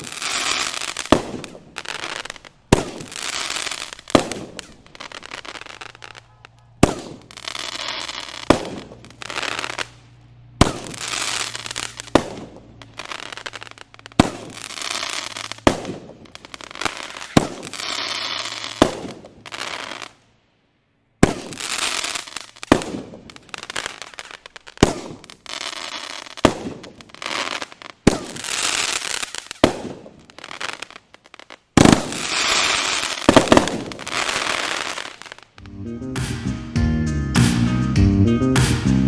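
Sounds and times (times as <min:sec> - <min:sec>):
fireworks reports: 0:00.0 - 0:20.2, 0:21.2 - 0:31.1, 0:31.8 - 0:36.8
firework crackling: 0:00.0 - 0:20.4, 0:21.2 - 0:36.6.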